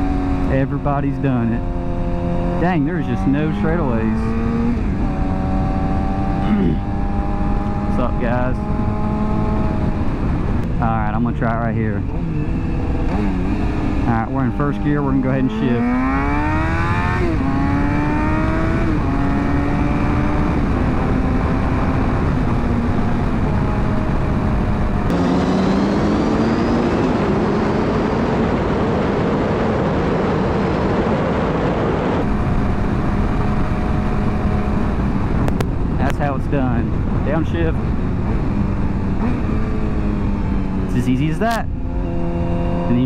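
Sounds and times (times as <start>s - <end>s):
motorcycle engine shifting gears: 0.0s - 11.4s, 12.0s - 31.1s, 32.1s - 43.0s
rushing wind noise: 0.0s - 43.0s.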